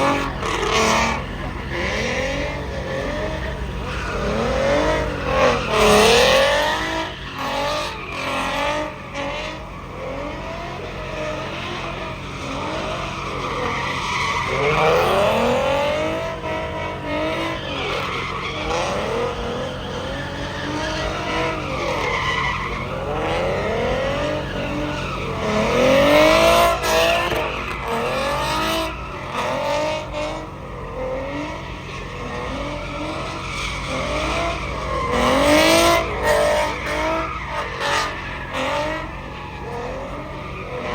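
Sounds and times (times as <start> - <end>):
engines revving: 0.0 - 40.9
low engine rumble: 0.0 - 40.9
tires squealing: 0.0 - 40.9.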